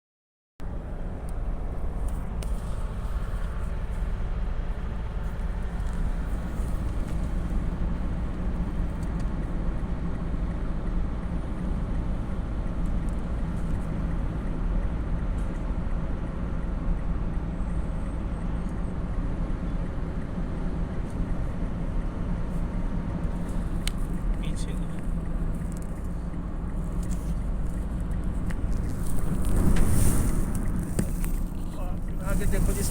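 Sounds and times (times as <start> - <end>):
vehicle engine rumbling: 0.6 - 32.9.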